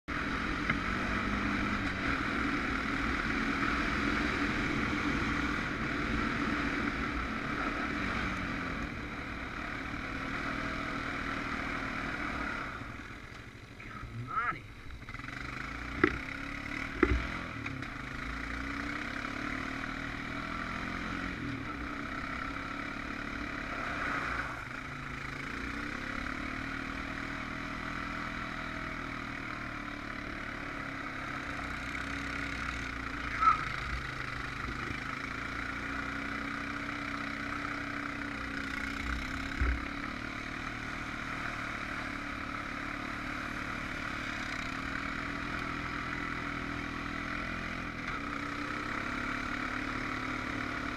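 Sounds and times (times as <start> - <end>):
atv engine revving: 0.1 - 50.9.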